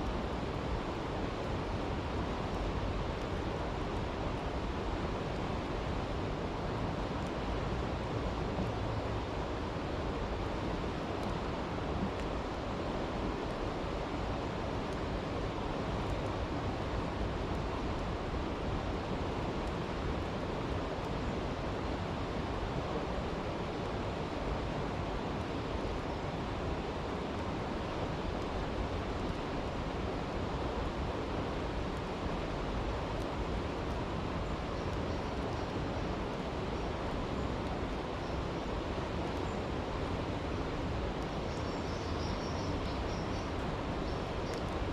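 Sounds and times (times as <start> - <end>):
faint campfire crackles: 0.0 - 44.9.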